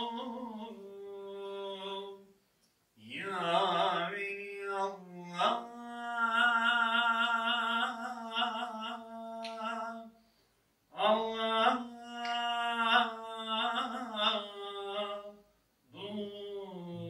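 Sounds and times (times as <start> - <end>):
solo voice chanting: 0.0 - 2.4, 3.0 - 10.2, 10.9 - 17.0.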